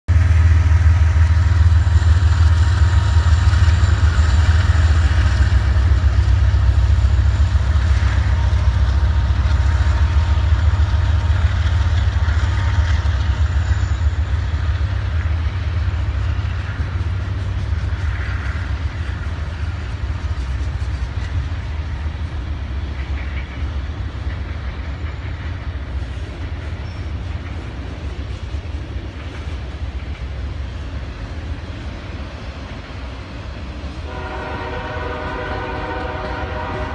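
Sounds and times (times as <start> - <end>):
freight train rumbling past: 0.1 - 36.9.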